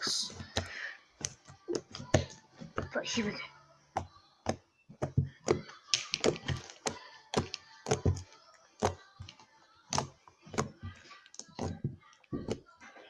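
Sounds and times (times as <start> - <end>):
fingers poking slime: 0.1 - 12.8.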